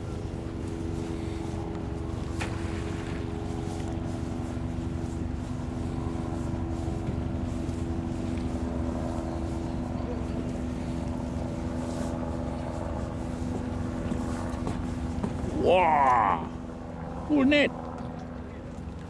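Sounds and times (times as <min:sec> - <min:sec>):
steady motor hum: 0:00.0 - 0:19.0
wind rumble on microphone: 0:00.0 - 0:19.0.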